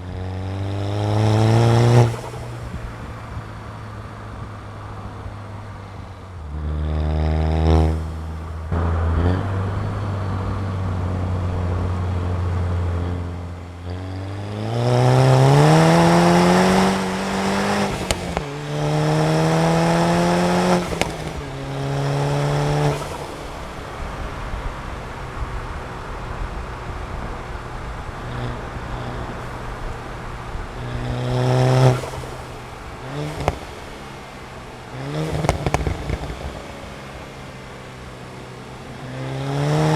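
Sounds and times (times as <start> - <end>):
car engine accelerating hard: 0.0 - 39.9.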